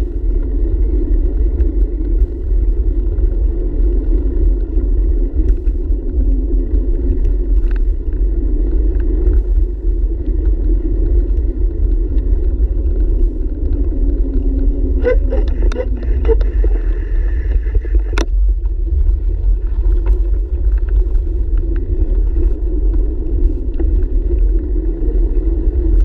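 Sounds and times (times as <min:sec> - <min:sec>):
bicycle tyres rolling on pavement: 0:00.0 - 0:26.0
wind buffeting microphone: 0:00.0 - 0:26.0.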